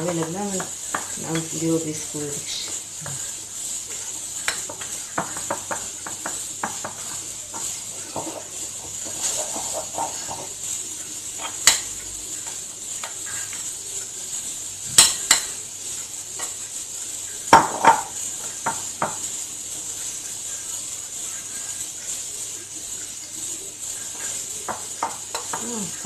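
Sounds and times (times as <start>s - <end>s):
utensils clinking on dishes: 0.0s - 3.3s, 3.9s - 16.7s, 17.4s - 26.0s
faint steady hiss: 0.0s - 26.0s.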